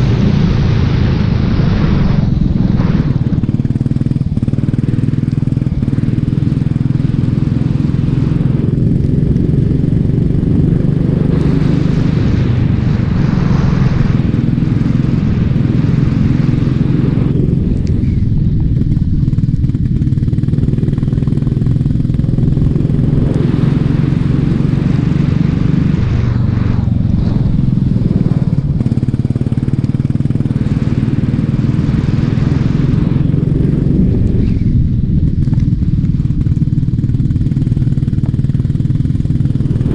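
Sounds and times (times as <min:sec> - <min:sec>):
racing kart engine accelerating: 0:00.0 - 0:34.8.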